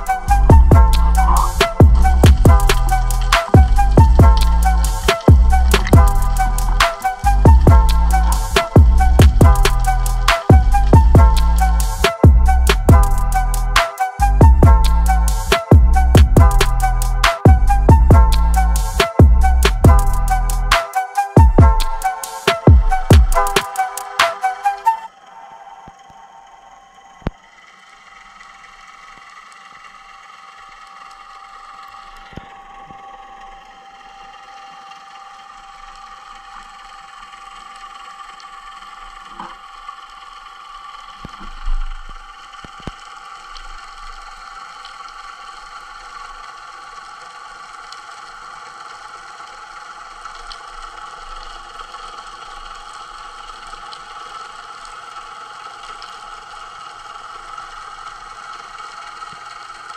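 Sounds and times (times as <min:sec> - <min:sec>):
steady underwater hiss: 0:00.0 - 0:59.9.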